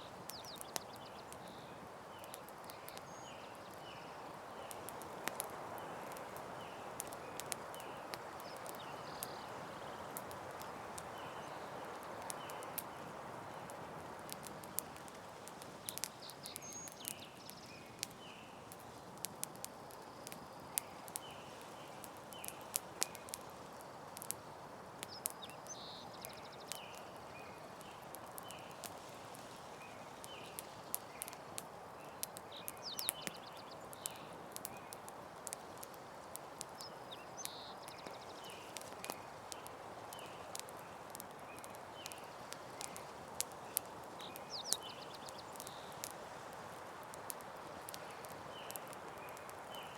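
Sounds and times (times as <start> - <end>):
campfire crackling and hissing: 0.0 - 49.9.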